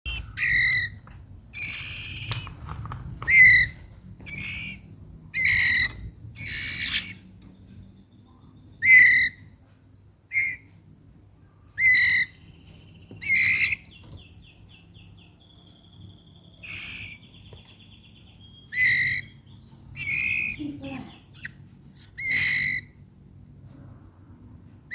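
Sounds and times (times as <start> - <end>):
bird calling: 0.0 - 7.6, 8.4 - 11.0, 11.6 - 23.0.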